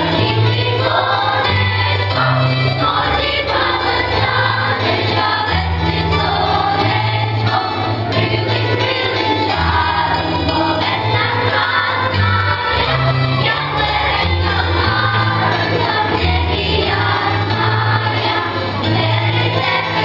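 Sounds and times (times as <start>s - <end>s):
choir singing: 0.0s - 20.0s
instrumental music with bass line: 0.0s - 20.0s.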